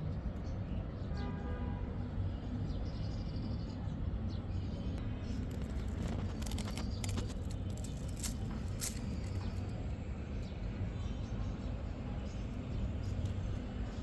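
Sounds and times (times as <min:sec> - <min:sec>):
low outdoor rumble and hum: 0:00.0 - 0:14.0.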